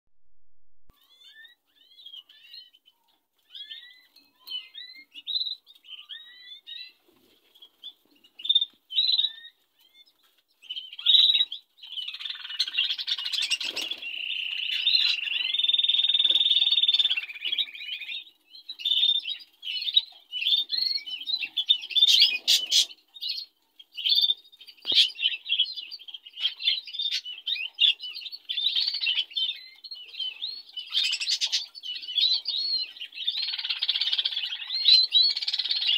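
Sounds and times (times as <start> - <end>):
budgerigars chirping and warbling: 0.9 - 35.9.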